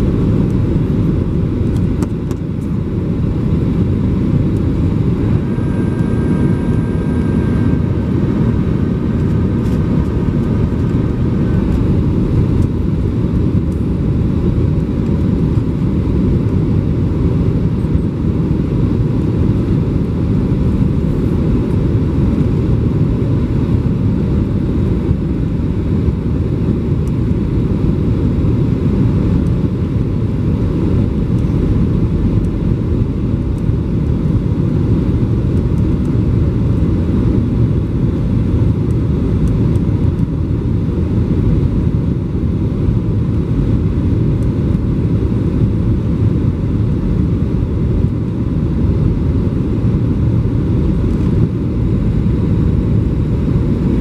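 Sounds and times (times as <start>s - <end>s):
jet engine cabin roar: 0.0s - 54.0s.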